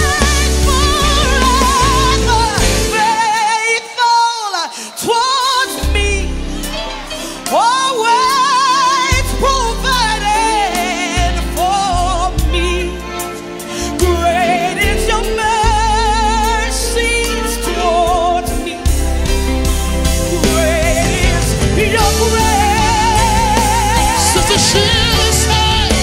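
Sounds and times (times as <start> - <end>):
gospel accompaniment with bass: 0.0 - 26.0
gospel solo singing: 0.0 - 26.0.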